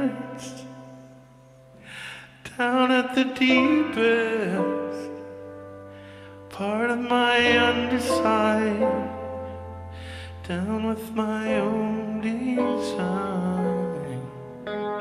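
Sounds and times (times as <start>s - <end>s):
man singing slow song: 0.0s - 1.0s, 1.9s - 5.5s, 6.3s - 15.0s
guitar and piano: 0.0s - 15.0s.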